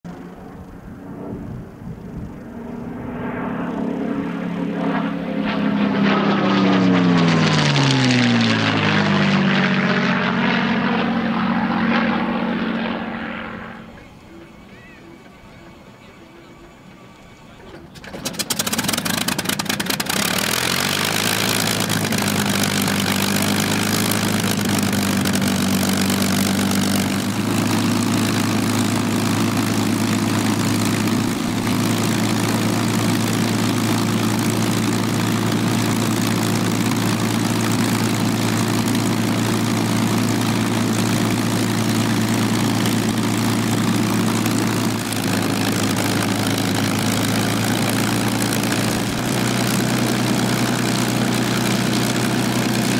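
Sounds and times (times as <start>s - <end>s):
aircraft engine idling: 0.1s - 52.9s.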